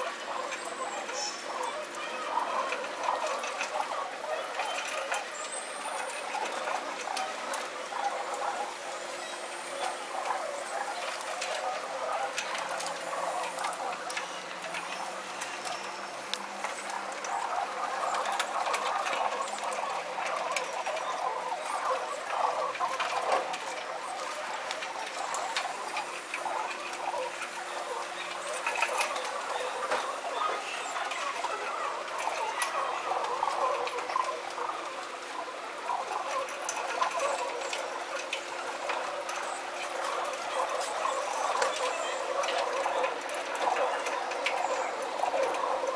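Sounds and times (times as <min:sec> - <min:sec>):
pigeon feet clicking: 0:00.0 - 0:45.9
pigeons scratchy chatter: 0:00.0 - 0:45.9.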